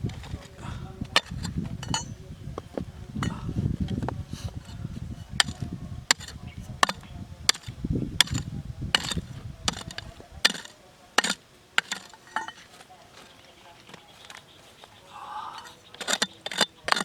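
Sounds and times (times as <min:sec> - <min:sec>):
hand tool striking rock: 0:00.1 - 0:14.6, 0:15.5 - 0:17.0.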